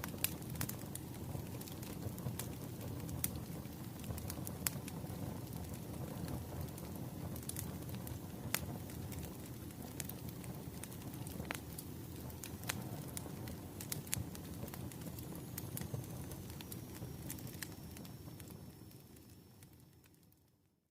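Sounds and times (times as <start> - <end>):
firewood pops and crackles: 0.0 - 18.9
wood fire rumbling: 0.0 - 20.2.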